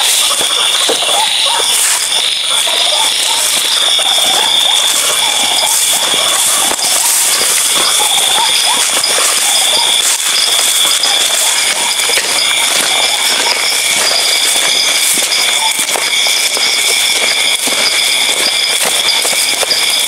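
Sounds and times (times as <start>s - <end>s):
footsteps on grass and soil: 0.0s - 20.0s
night insects chorus: 0.0s - 20.0s.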